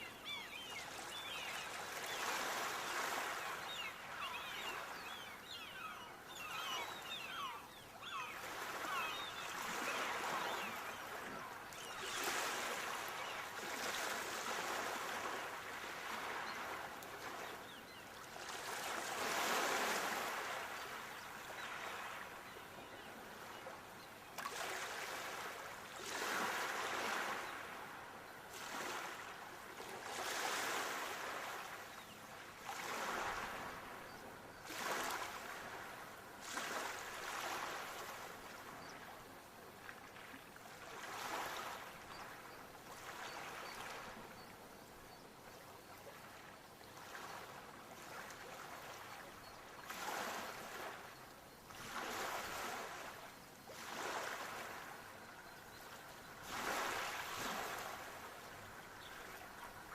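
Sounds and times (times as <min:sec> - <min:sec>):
sea waves breaking on shore: 0:00.0 - 0:22.5, 0:24.4 - 0:32.0, 0:32.6 - 0:44.7, 0:45.5 - 0:51.1, 0:51.7 - 0:59.9.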